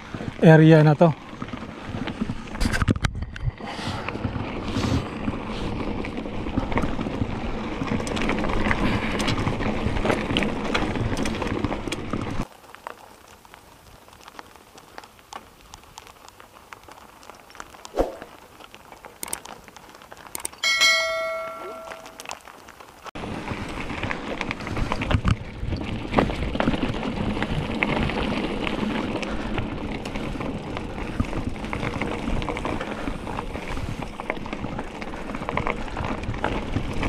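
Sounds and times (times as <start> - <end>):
bike tyres crunching over gravel: 0.0 - 37.0.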